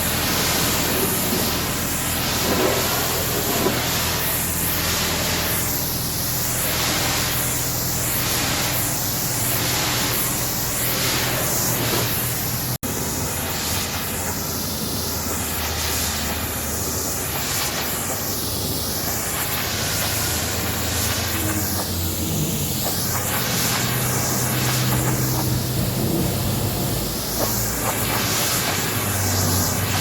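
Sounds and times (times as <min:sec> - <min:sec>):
high-pressure water jet spraying: 0:00.0 - 0:30.0.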